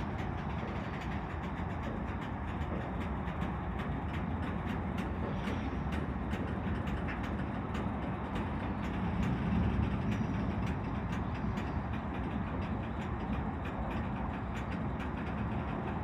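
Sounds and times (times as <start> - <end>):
freight train rumbling past: 0.0 - 16.0
wheels clicking over rail joints: 0.0 - 16.0.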